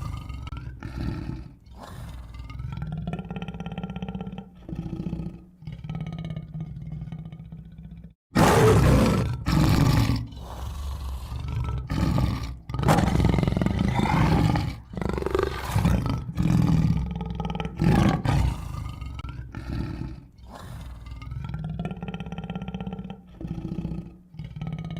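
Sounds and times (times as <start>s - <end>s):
tiger growling: 0.0s - 24.9s
tiger roaring: 0.0s - 24.9s.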